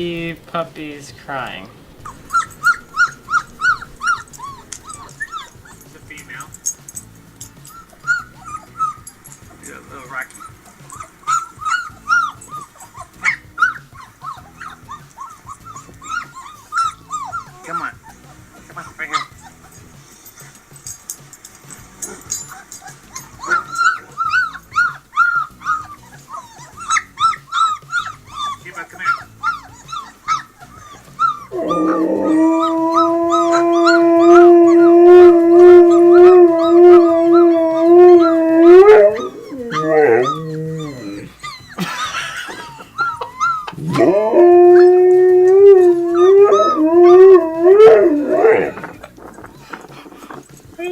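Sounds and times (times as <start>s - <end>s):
husky howling: 0.0s - 50.6s
background music: 0.0s - 50.9s
puppies whimpering and yipping: 1.3s - 50.9s.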